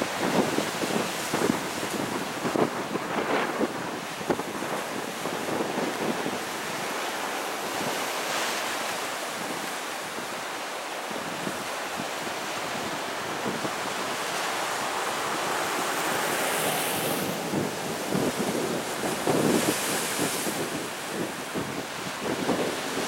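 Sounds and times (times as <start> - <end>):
surf washing over rocks: 0.0 - 23.0
wind buffeting microphone: 0.0 - 23.0.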